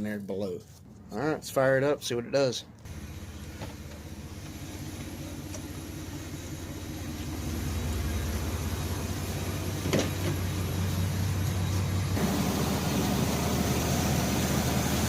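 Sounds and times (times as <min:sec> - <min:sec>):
car engine idling: 0:02.8 - 0:15.0.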